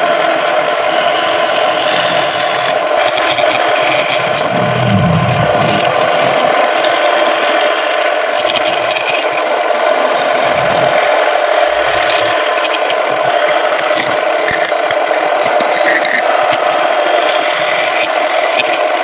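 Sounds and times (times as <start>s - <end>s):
wood lathe humming: 0.0s - 19.0s
turning tool scraping wood: 0.1s - 19.0s.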